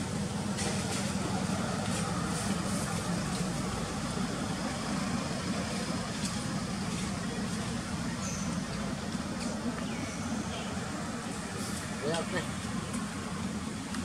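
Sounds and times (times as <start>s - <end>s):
engine-like hum: 0.0s - 14.0s
road traffic rumble: 0.0s - 14.0s.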